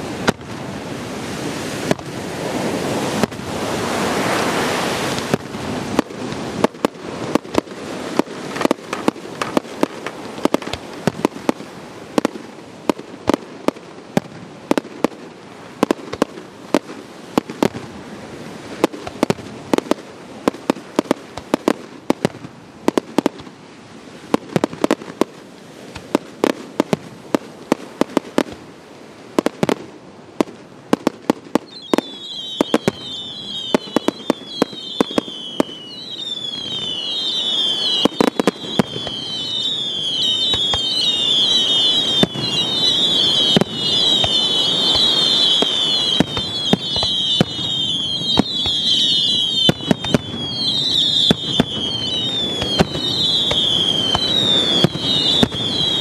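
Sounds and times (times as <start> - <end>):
fireworks bangs: 0.0 - 56.0
whistling fireworks: 0.0 - 56.0.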